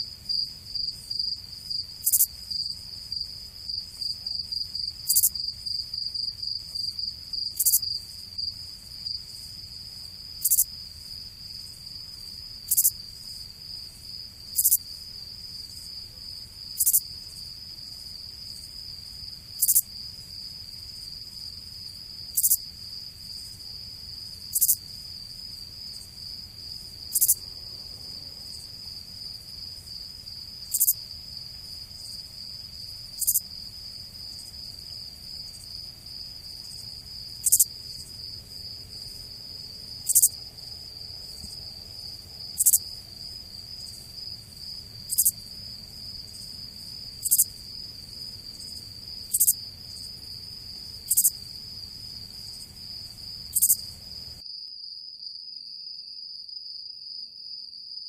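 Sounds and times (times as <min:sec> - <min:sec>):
insect pulsing trill: 0:00.0 - 0:09.2, 0:10.3 - 0:13.1, 0:13.7 - 0:15.0, 0:15.6 - 0:17.4, 0:19.5 - 0:21.2, 0:21.8 - 0:56.2
insect chirp: 0:00.0 - 0:58.0.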